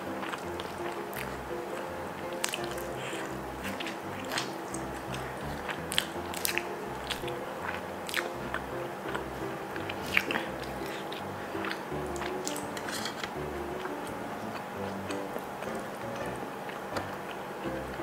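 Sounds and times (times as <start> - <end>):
chewing with wet mouth clicks: 0.0 - 18.0
soft background music: 0.0 - 18.0.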